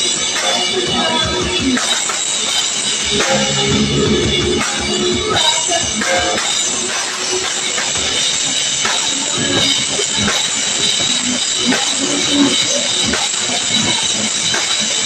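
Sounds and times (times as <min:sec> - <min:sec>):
drum kit hits: 0:00.0 - 0:15.0
live band playing: 0:00.0 - 0:15.0.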